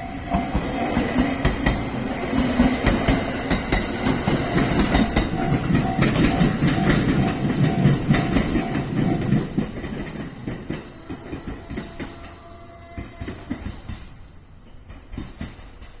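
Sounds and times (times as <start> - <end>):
train wheels rumbling and clattering: 0.0 - 16.0.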